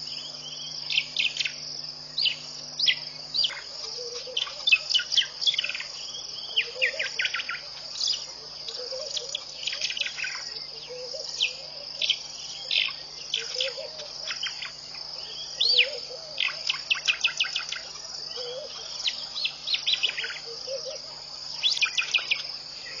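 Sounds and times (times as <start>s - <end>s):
birds chirping and trilling: 0.0s - 23.0s
high insect trill: 0.0s - 23.0s.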